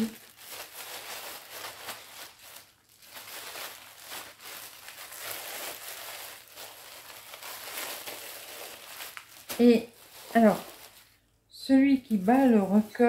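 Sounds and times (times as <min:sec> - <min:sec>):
crinkling and rustling wrappings: 0:00.0 - 0:13.0.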